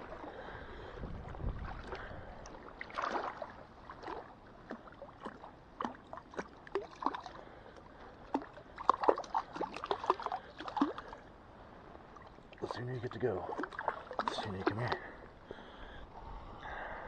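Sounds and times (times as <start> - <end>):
fish splashing in shallow water: 0.0 - 16.4.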